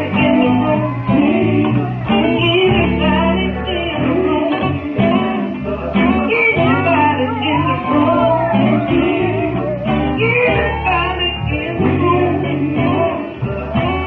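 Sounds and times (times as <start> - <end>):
gospel band playing: 0.0 - 14.0
guitar: 0.0 - 14.0
low bass notes: 0.0 - 14.0
person singing: 0.0 - 14.0.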